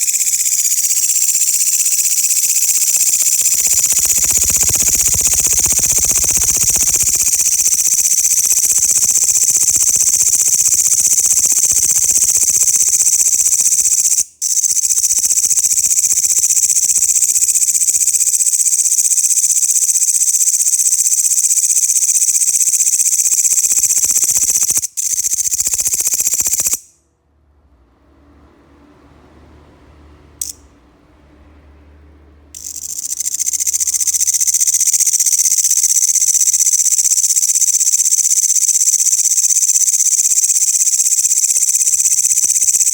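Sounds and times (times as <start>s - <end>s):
grasshopper stridulating: 0.0s - 26.9s, 30.4s - 30.6s, 32.5s - 42.9s.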